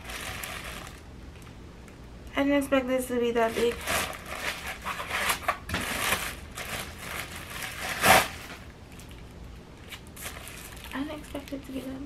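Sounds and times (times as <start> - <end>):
plastic packaging crinkling: 0.0 - 1.1, 3.4 - 12.0.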